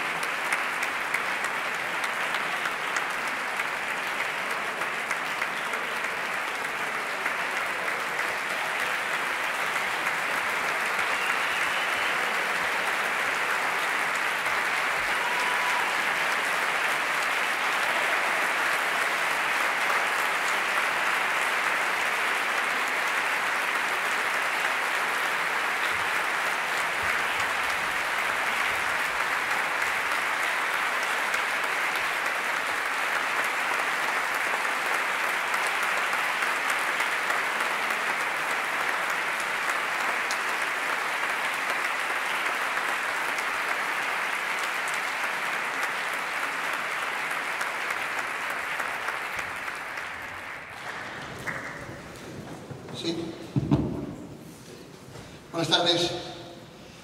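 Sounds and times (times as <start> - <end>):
audience applauding: 0.0 - 54.3.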